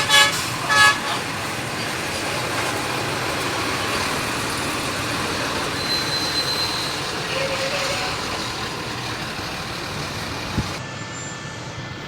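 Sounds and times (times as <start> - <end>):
heavy diesel machinery running: 0.0 - 10.8.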